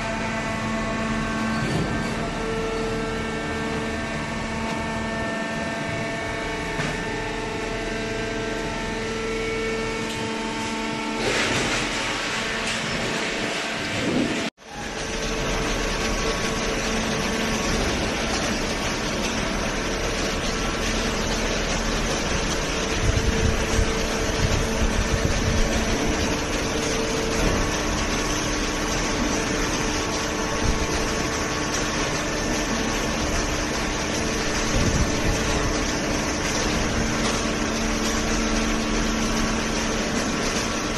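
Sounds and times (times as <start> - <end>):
baler machine humming: 0.0 - 40.9.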